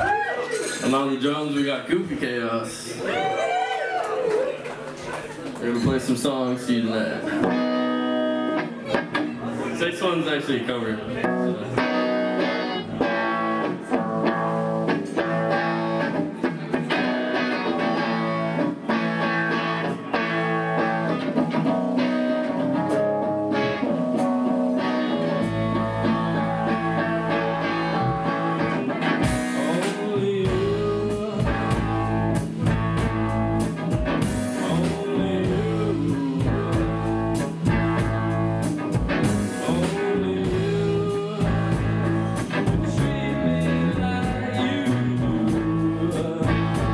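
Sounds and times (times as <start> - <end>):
live rock band playing: 7.3 - 9.8, 11.2 - 46.9.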